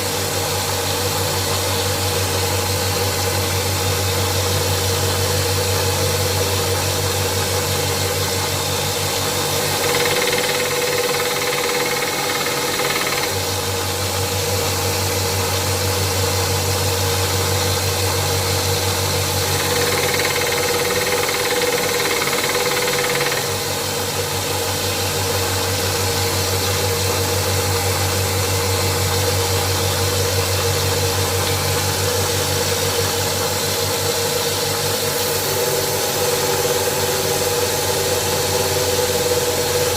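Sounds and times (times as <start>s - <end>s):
belt sander running: 0.0s - 39.9s.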